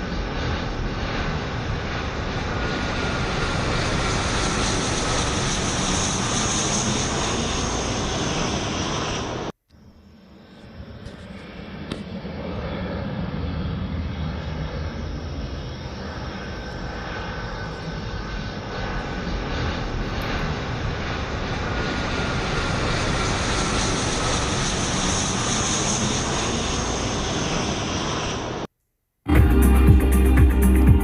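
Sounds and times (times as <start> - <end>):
airplane engine drone: 0.0 - 28.7, 29.3 - 31.0.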